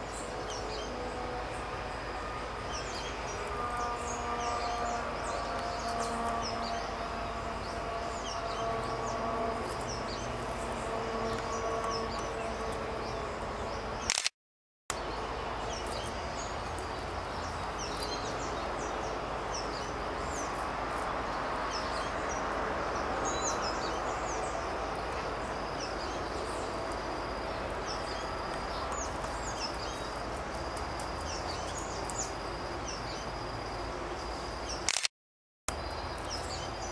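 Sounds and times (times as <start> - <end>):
outdoor background hiss: 0.0 - 14.1, 14.9 - 34.9, 35.7 - 36.9
small birds chirping: 2.5 - 14.3, 14.9 - 34.9, 35.7 - 36.9.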